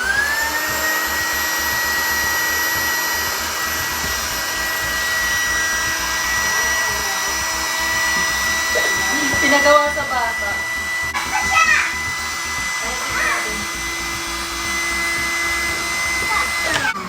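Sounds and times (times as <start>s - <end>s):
electric air pump whining: 0.0s - 17.0s.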